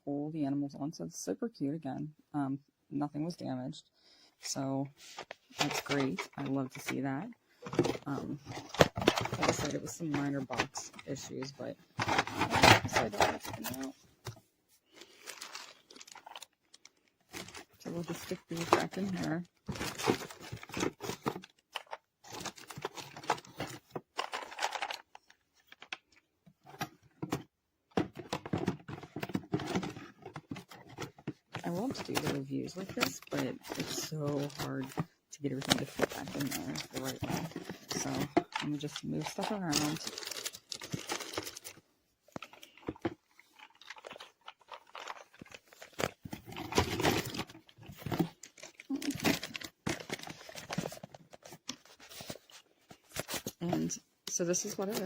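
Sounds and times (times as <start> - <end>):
plastic parts clicking and knocking: 5.1 - 55.0
packaging rustling and crinkling: 7.6 - 26.1, 28.0 - 54.0.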